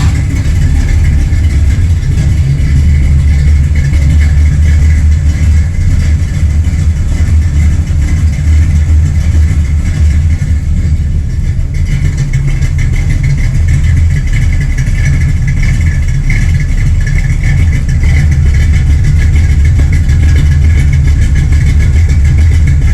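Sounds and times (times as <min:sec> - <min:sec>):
deep engine exhaust idling: 0:00.0 - 0:22.9.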